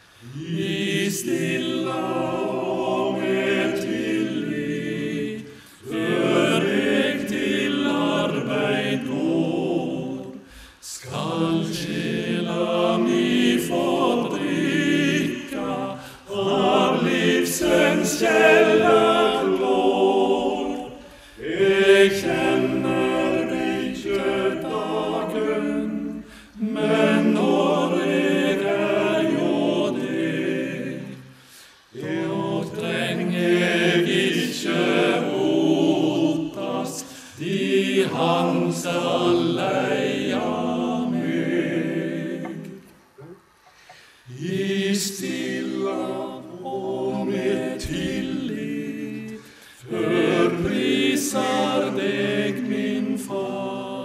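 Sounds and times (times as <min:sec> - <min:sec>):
men's vocal group singing a hymn: 0:00.2 - 0:42.9, 0:43.8 - 0:54.0.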